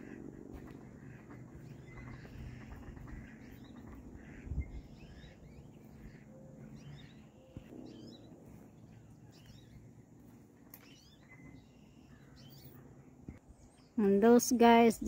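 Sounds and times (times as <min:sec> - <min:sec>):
steady low rumble: 0:00.0 - 0:13.9
faint bird chirps: 0:00.0 - 0:14.0.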